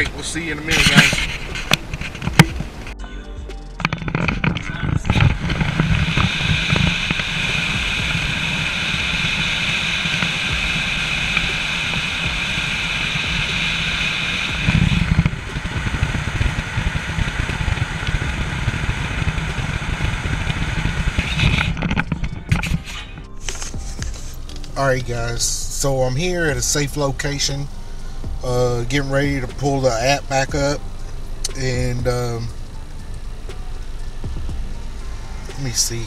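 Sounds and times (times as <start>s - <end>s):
car interior road noise: 0.0s - 36.0s.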